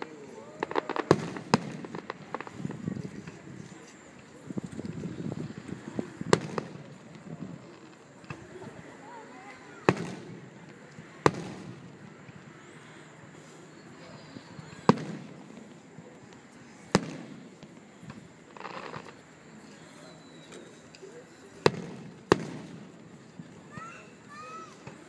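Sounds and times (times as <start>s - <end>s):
fireworks bursting with echo: 0.0s - 19.9s, 20.9s - 25.0s.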